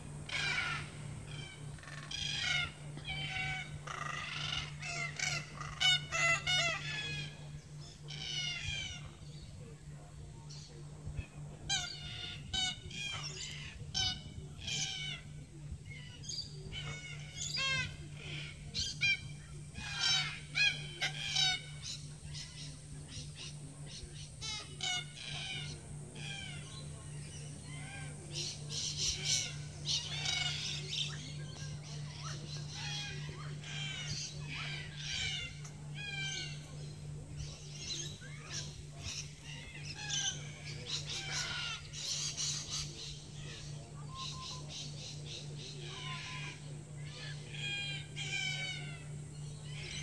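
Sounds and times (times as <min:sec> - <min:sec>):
cockatoos calling: 0:00.0 - 0:50.0
steady low hum: 0:00.0 - 0:50.0.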